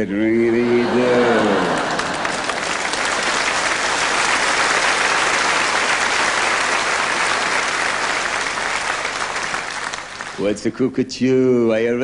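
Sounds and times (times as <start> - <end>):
audience applauding: 0.4 - 10.6.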